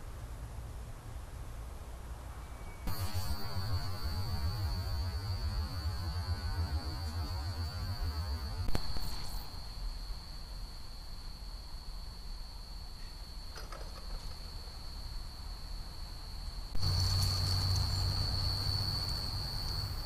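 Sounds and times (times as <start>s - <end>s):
high-pitched electronic whine: 2.6s - 20.0s
low electronic hum: 2.9s - 13.5s, 14.4s - 20.0s.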